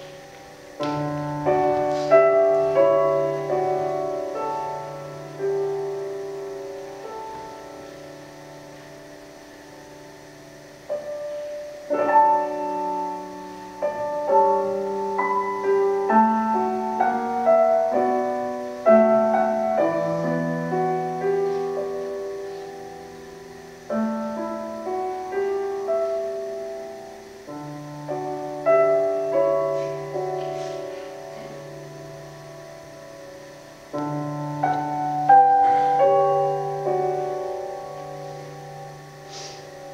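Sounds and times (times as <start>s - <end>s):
solo piano music: 0.0s - 39.9s.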